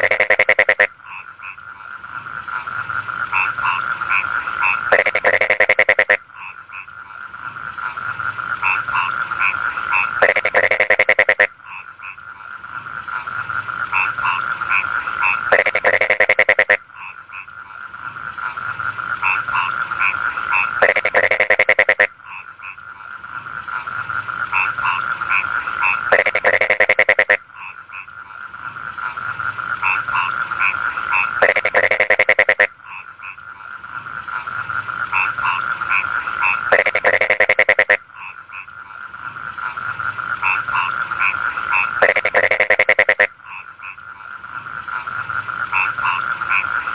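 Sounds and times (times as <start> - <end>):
frogs croaking: 0.0 - 46.9.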